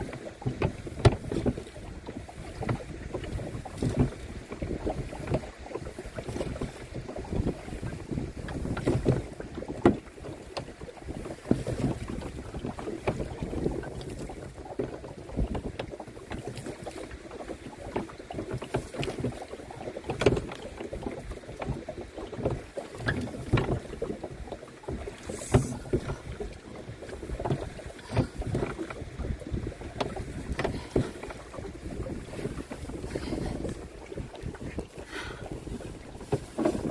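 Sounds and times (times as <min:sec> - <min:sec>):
paddle splashing in water: 0:00.0 - 0:36.9
wind rumble on microphone: 0:00.0 - 0:36.9.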